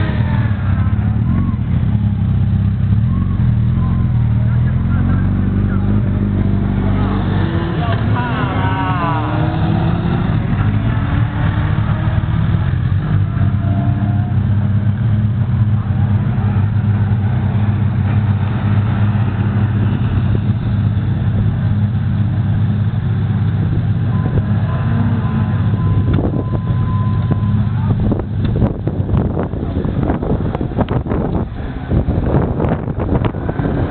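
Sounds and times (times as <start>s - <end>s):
motorcycle engines running: 0.0s - 33.9s
motorcycles revving: 0.0s - 33.9s.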